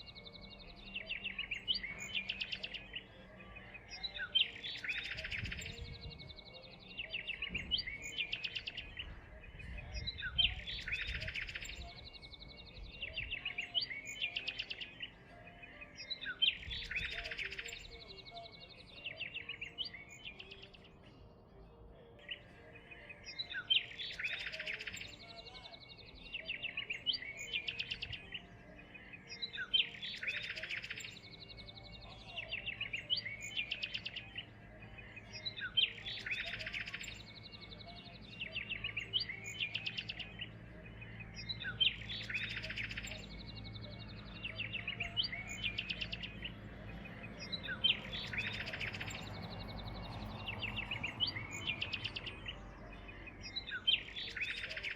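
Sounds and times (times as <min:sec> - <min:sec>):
songbird chirps and trill: 0:00.0 - 0:54.9.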